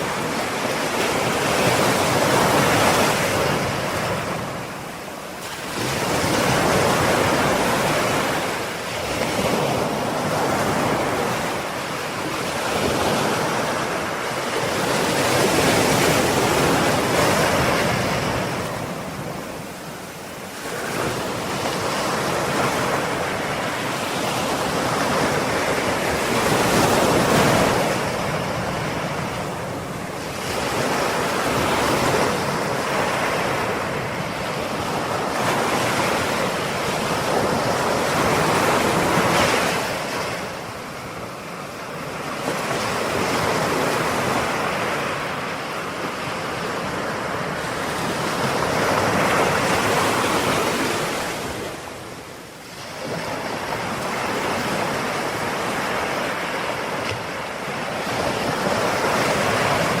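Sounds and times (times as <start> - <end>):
ocean waves breaking on shore: 0.0 - 60.0.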